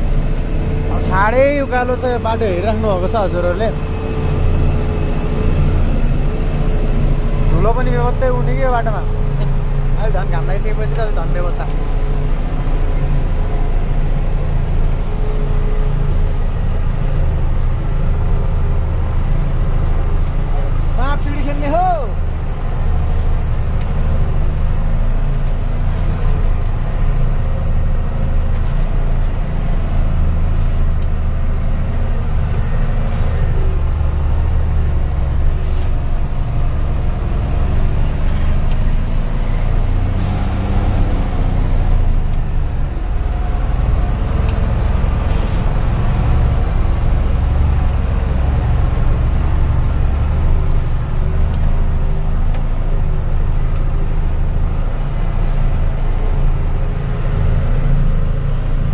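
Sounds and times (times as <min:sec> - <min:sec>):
truck engine drone: 0:00.0 - 0:58.9.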